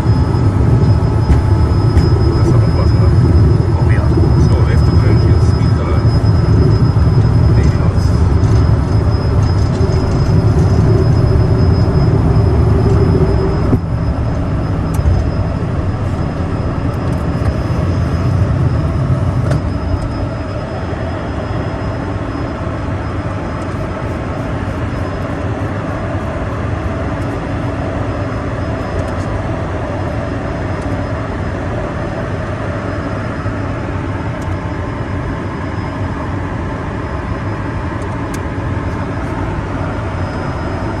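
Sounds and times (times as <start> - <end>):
jet engine cabin rumble: 0.0 - 41.0.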